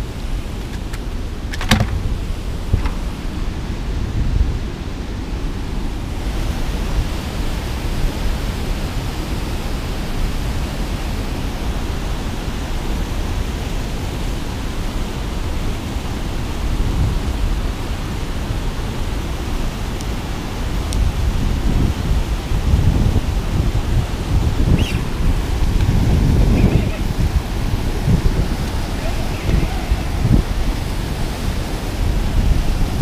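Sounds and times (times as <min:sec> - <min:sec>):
churning water rushing: 0:00.0 - 0:33.0.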